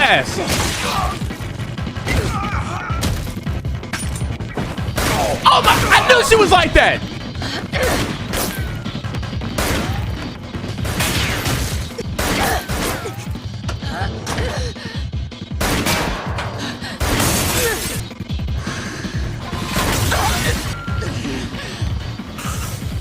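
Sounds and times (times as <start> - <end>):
dramatic background music: 0.0 - 23.0.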